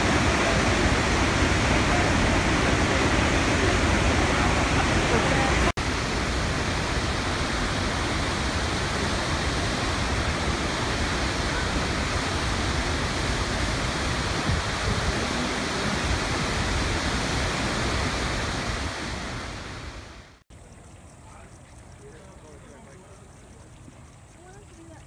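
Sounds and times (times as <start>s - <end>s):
roar of waterfall: 0.0s - 20.4s.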